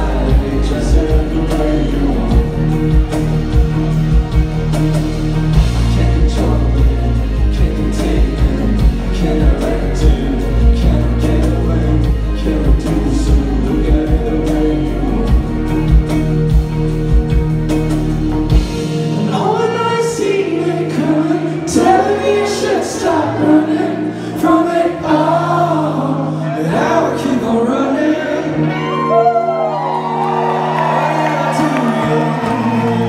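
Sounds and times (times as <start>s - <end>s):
people singing: 0.0s - 16.3s, 19.1s - 30.0s, 30.6s - 33.0s
electric guitars: 0.0s - 33.0s
held bass notes: 0.0s - 33.0s.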